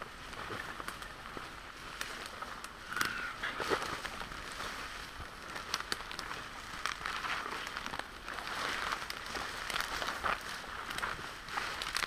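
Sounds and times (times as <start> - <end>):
footsteps crunching through dry grass: 0.0 - 12.0.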